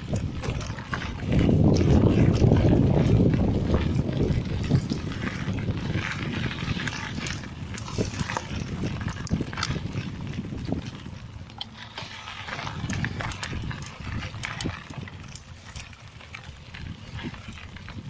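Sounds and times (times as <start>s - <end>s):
bike tyres crunching on dirt: 0.0s - 18.0s
wind rumble on microphone: 0.0s - 18.0s.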